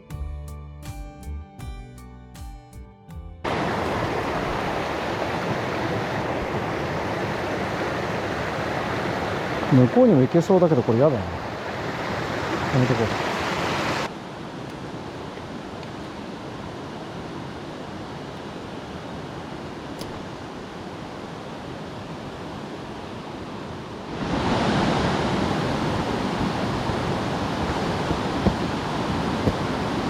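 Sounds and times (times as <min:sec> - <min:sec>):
mountain stream rushing: 0:03.5 - 0:30.0.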